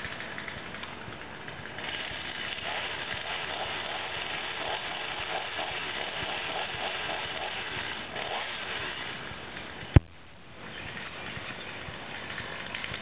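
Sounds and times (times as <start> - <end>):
small engine running: 0.0 - 10.0, 10.6 - 13.0.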